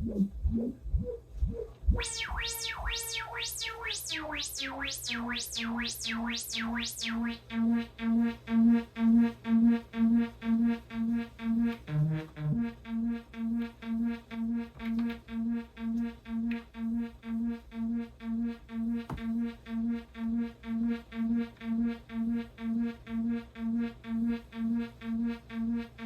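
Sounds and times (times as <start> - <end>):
synthesizer tones: 1.9 - 26.0.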